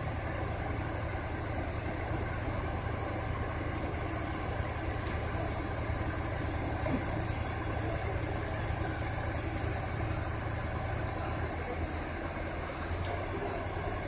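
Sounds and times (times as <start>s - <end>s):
heavy machinery engine droning: 0.0s - 14.0s.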